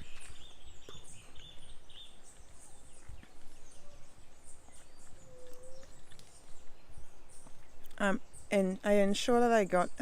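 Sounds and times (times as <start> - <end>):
birds chirping: 0.0 - 10.0
wind rumble on microphone: 0.0 - 10.0.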